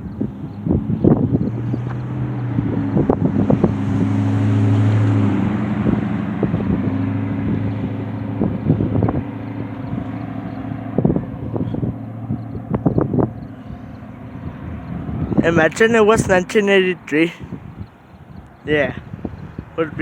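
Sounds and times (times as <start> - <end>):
diesel locomotive drone: 0.0 - 19.9.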